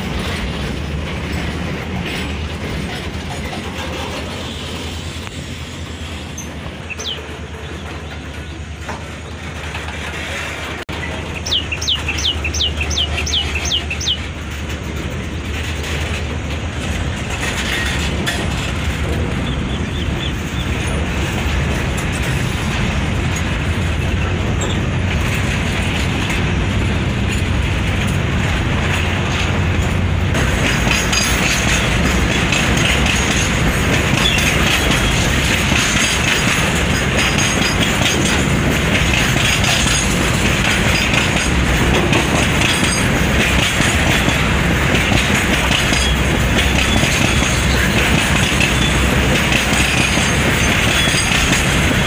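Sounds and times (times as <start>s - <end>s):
freight train wheels rumbling on rails: 0.0s - 52.0s.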